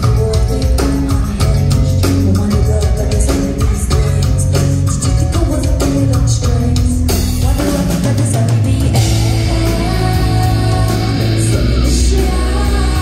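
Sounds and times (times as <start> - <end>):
drum kit beating: 0.0 - 13.0
rock band playing live: 0.0 - 13.0.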